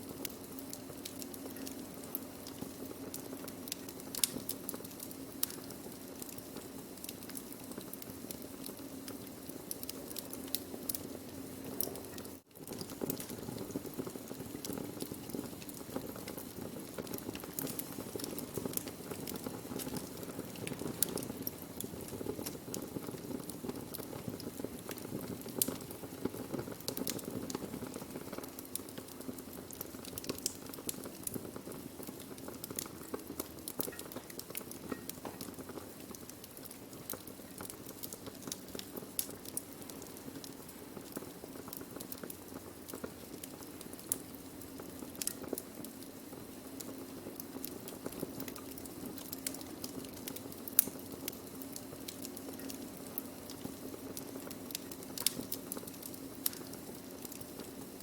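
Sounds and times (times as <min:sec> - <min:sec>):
burning wood crackling: 0:00.0 - 0:58.0.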